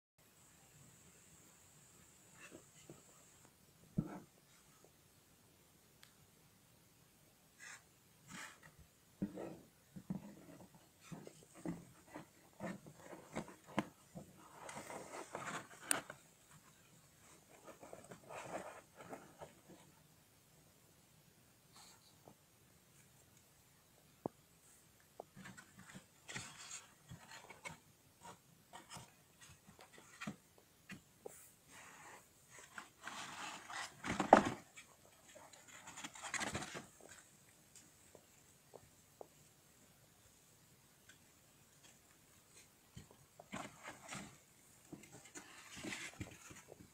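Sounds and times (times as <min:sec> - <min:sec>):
rustling: 0:07.6 - 0:20.1, 0:21.7 - 0:46.9.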